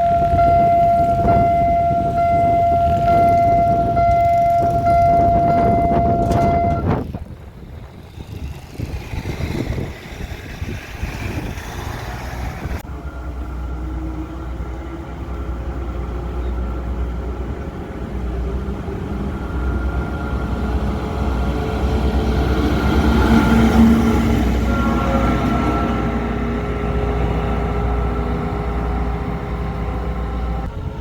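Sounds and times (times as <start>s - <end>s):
diesel locomotive engine rumbling: 0.0s - 31.0s.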